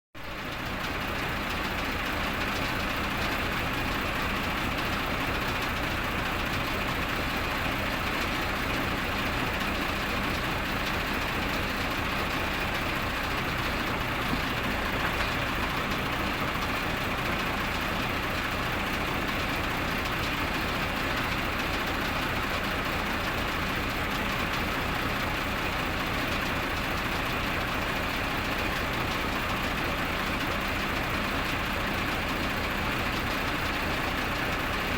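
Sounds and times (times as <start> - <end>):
engine idling: 0.2 - 34.9.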